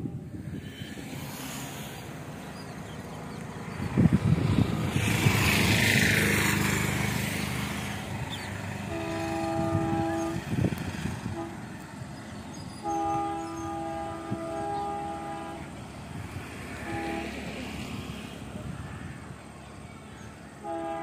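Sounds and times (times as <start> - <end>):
distant diesel locomotive horn: 0.0 - 2.1, 5.3 - 19.1, 20.1 - 21.0
vehicle engine rumbling: 0.0 - 21.0.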